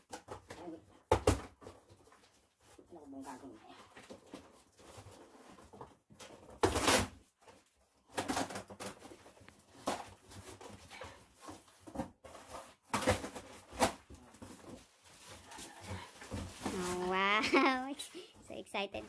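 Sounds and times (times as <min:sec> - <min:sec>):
cardboard box and plastic rustling: 0:00.0 - 0:19.0.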